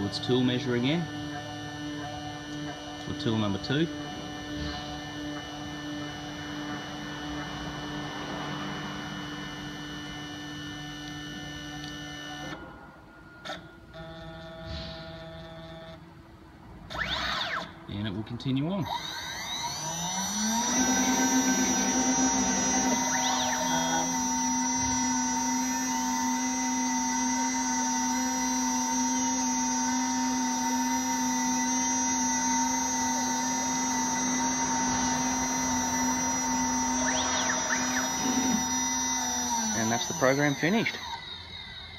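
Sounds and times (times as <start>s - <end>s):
machine motors humming and whining: 0.0s - 41.9s.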